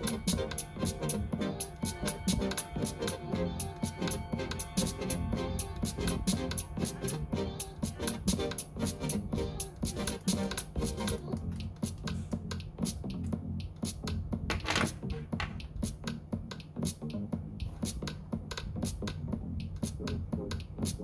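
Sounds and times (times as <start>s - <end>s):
music with steady beat and bass: 0.0s - 21.0s.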